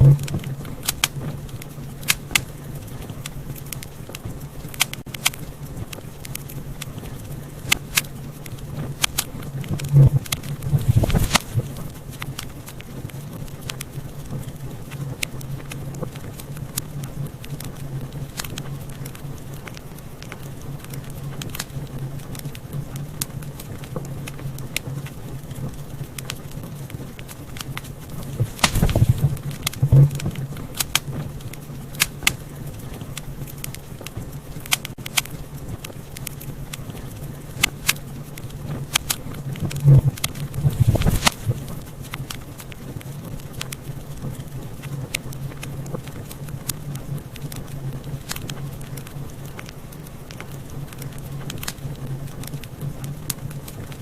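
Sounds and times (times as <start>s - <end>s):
fire crackling and popping: 0.0s - 54.0s
fire rumble: 0.0s - 54.0s.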